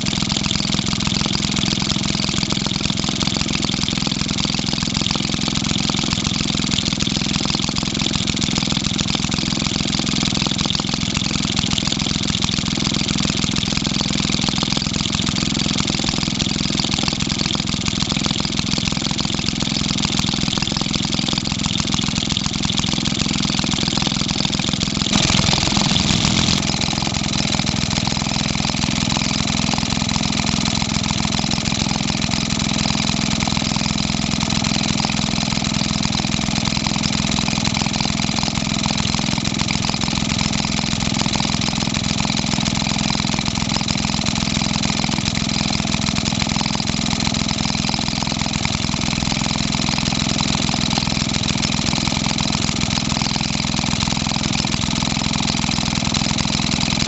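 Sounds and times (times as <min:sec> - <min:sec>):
two-stroke engine running: 0:00.0 - 0:57.0.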